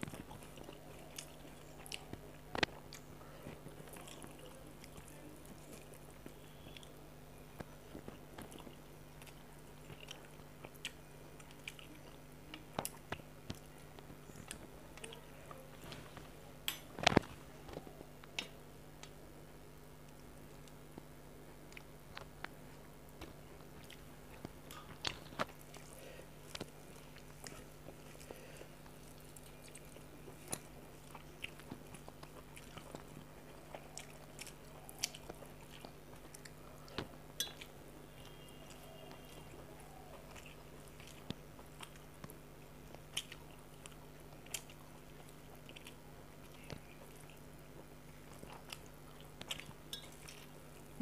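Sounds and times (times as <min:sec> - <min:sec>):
person chewing food: 0:00.0 - 0:19.2, 0:20.1 - 0:51.0
faint steady hum: 0:00.0 - 0:51.0.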